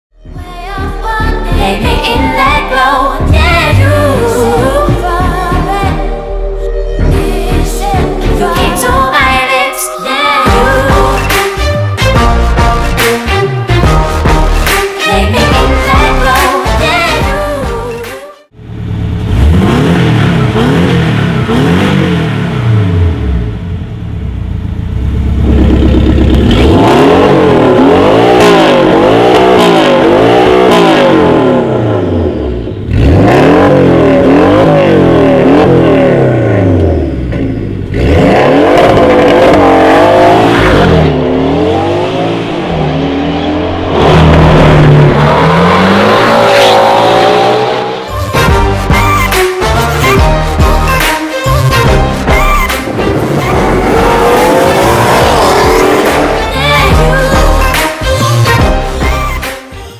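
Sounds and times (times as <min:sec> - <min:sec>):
car engine revving: 0:10.5 - 0:59.6.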